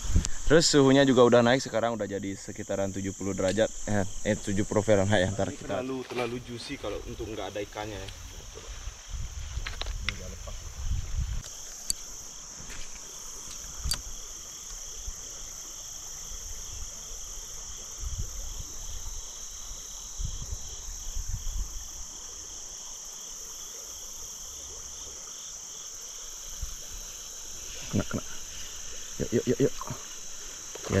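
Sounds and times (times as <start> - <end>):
insects chorus: 0.0 - 31.0
pulsing insect trill: 0.0 - 31.0.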